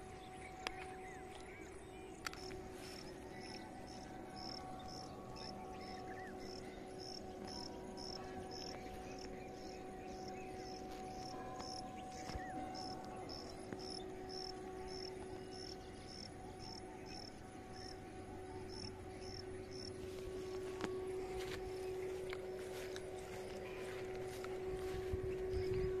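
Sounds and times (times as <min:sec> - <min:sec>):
faint steady hum: 0:00.0 - 0:26.0
insect chirping: 0:00.0 - 0:26.0.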